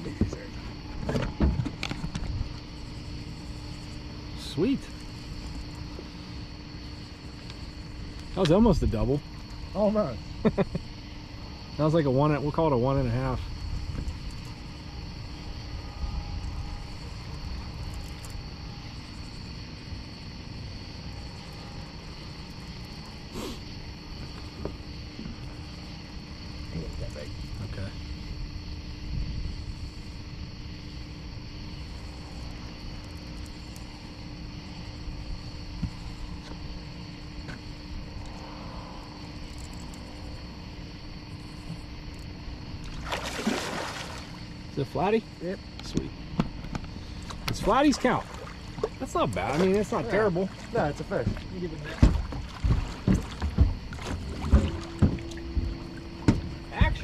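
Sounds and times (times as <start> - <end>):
crickets chirring: 0.0 - 57.0
faint steady hum: 0.0 - 57.0
night insects droning: 0.0 - 57.0.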